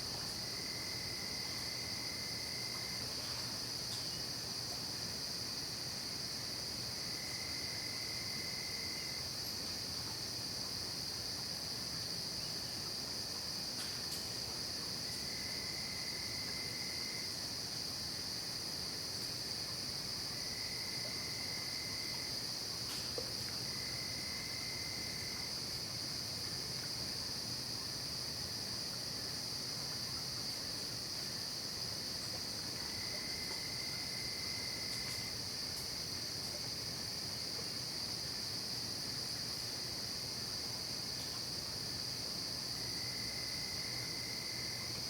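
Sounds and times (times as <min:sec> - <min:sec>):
crickets trilling: 0:00.0 - 0:45.0
lower insect trill: 0:00.0 - 0:45.0.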